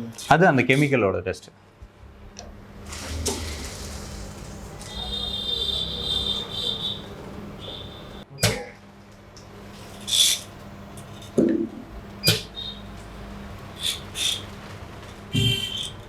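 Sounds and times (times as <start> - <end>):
low electrical hum: 1.2 - 15.6.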